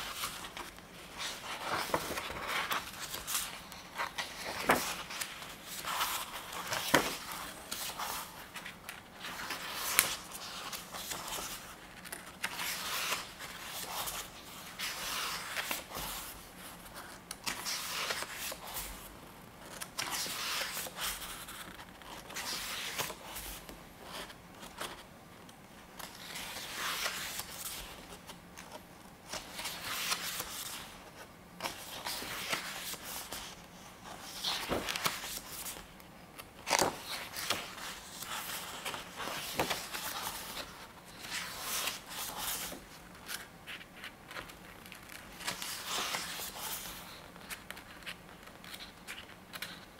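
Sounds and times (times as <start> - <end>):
paper pages rustling: 0.0 - 49.9.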